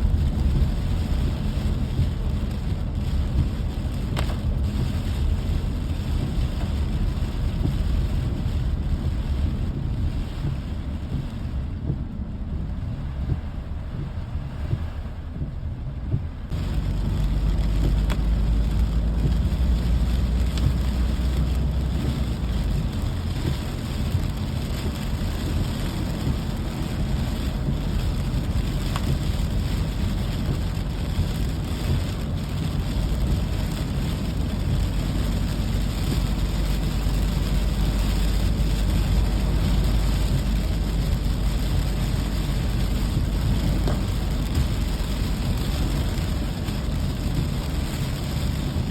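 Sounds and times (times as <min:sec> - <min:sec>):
low rumble: 0:00.0 - 0:48.9
steady rain: 0:00.0 - 0:48.9.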